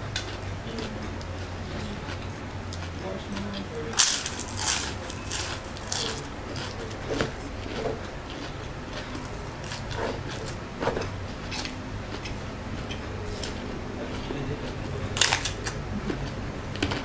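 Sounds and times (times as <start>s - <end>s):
chewing crisp spring rolls: 0.0s - 17.0s.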